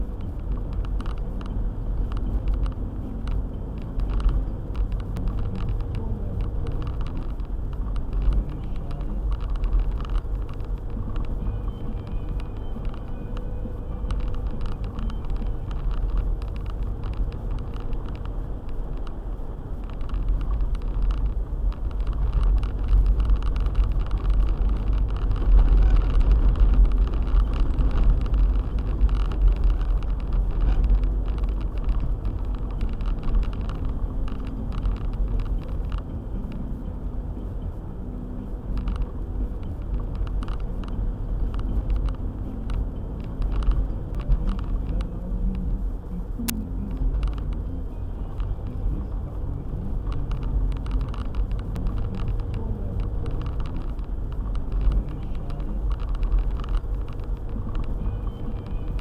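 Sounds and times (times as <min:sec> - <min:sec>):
car driving on snowy road: 0:00.0 - 0:59.0.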